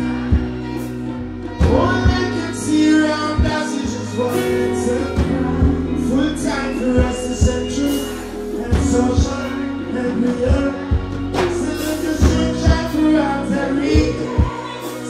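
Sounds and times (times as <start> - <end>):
man singing into microphone: 0.0 - 15.0
reggae band music: 0.0 - 15.0.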